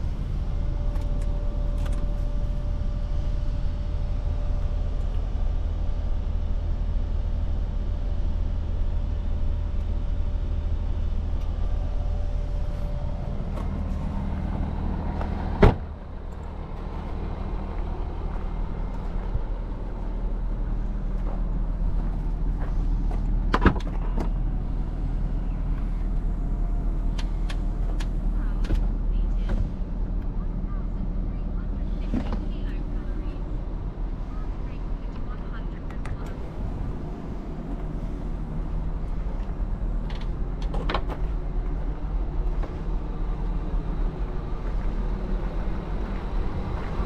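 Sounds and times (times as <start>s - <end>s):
car engine rumble: 0.0s - 47.0s.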